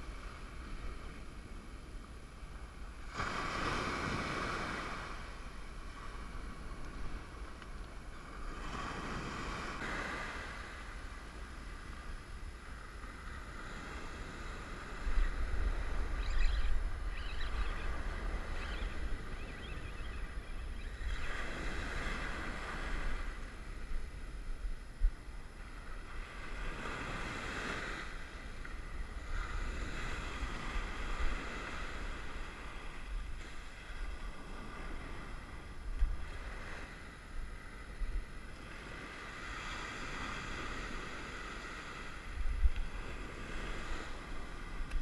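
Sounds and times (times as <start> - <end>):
ocean surf washing up beach: 0.0 - 16.2, 20.6 - 45.0.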